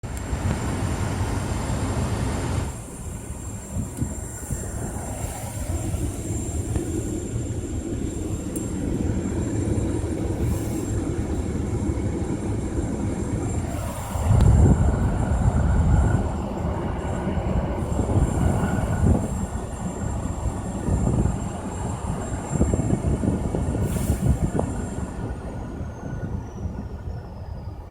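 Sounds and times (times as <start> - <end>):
low rumble: 3.2 - 27.8.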